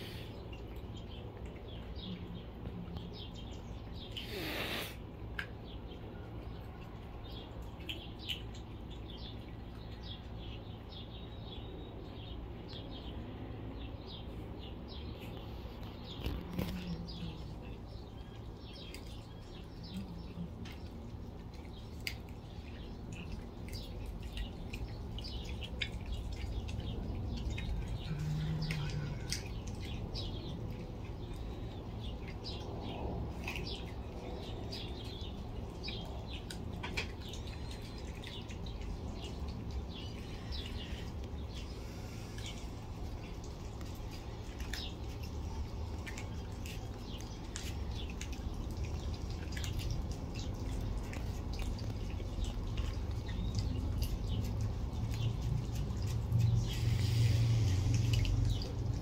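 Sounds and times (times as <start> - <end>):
cats chewing raw meat: 0.0 - 59.0
small birds chirping: 0.0 - 59.0.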